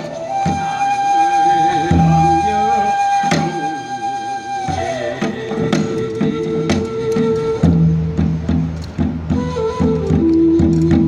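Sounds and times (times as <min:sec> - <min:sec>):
flute playing long notes: 0:00.0 - 0:08.6, 0:09.3 - 0:11.0.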